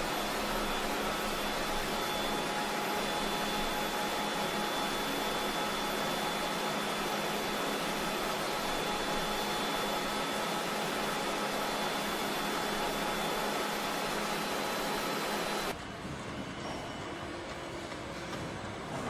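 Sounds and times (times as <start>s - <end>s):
faint high machinery whines: 0.0s - 19.0s.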